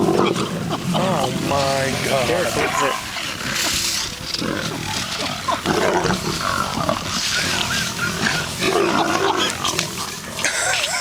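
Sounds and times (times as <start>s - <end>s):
lions growling and snarling: 0.0s - 11.0s.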